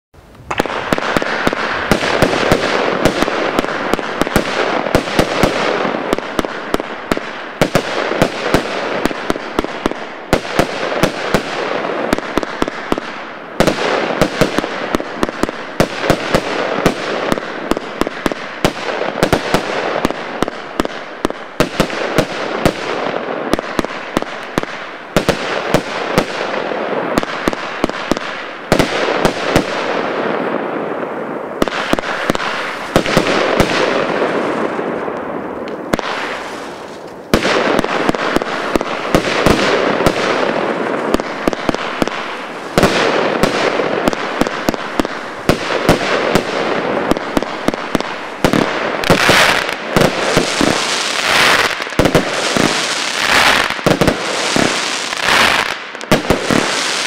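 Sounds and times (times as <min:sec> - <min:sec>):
firework crackle: 0:00.2 - 0:57.0
firework bangs and bursts: 0:00.4 - 0:57.0.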